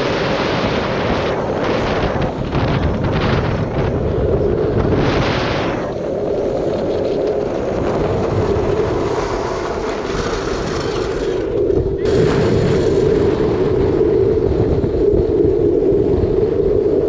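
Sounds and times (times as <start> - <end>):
wheels rolling on asphalt: 0.0 - 17.0
wind rushing over microphone: 0.0 - 17.0.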